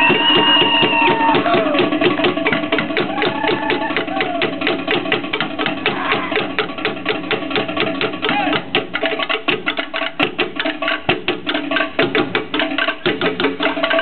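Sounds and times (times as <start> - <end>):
fast drum strikes: 0.0 - 14.0.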